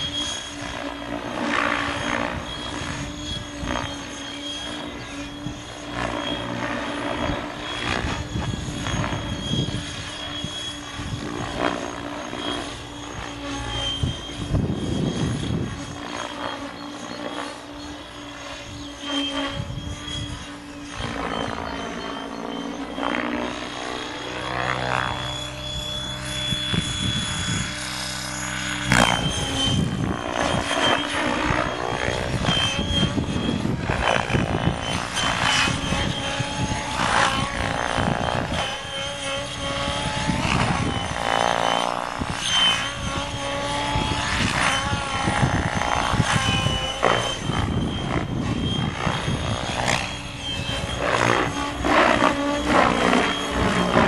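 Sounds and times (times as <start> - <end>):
helicopter rotor whirring: 0.0 - 54.0.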